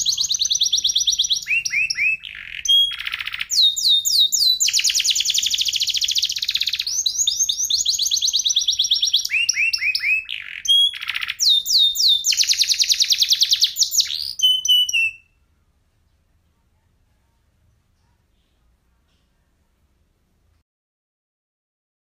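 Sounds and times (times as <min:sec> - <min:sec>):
canary singing: 0:00.0 - 0:19.6.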